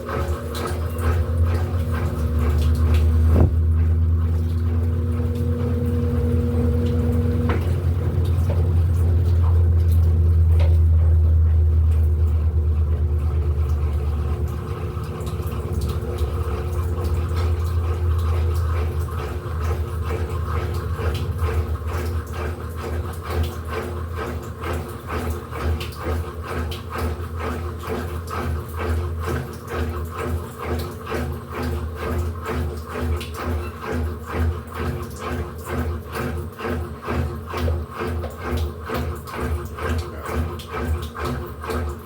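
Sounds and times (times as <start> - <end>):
washing machine motor hum: 0.0 - 42.0.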